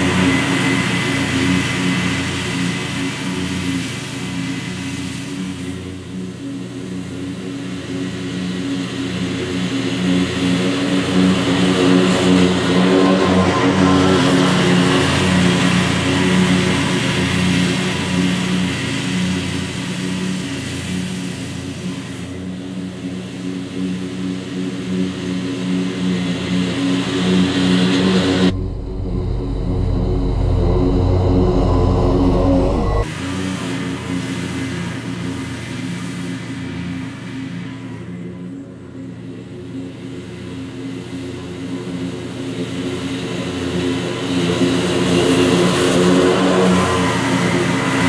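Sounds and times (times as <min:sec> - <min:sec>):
mower engine drone: 0:00.0 - 0:48.0.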